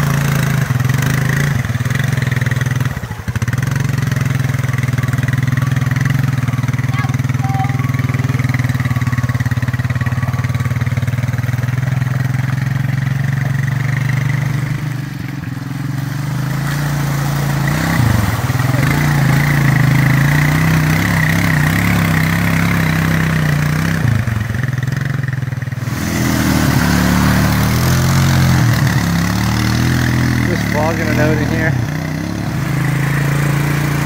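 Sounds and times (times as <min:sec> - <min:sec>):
quad engine running: 0:00.0 - 0:34.0.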